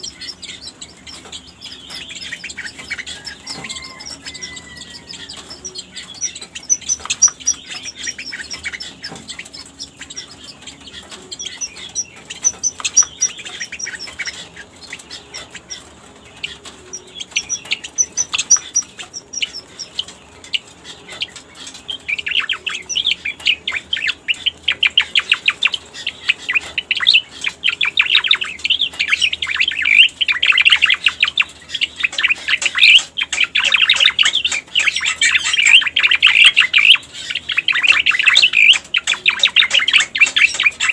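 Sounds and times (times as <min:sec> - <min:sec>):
rapid chattering bird notes: 0:00.0 - 0:40.9.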